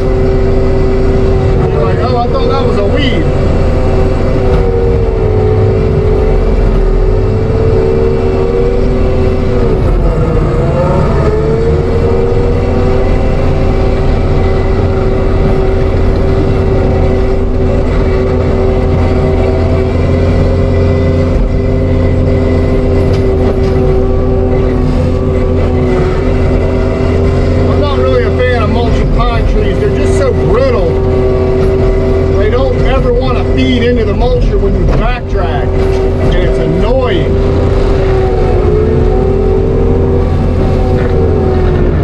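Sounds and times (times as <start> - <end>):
mulcher head whining: 0.0 - 42.0
track loader engine droning: 0.0 - 42.0.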